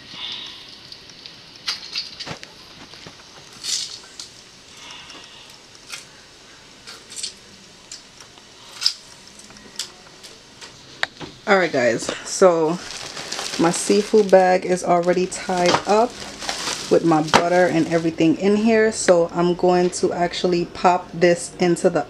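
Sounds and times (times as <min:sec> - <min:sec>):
plastic bag rustling: 0:00.0 - 0:18.8.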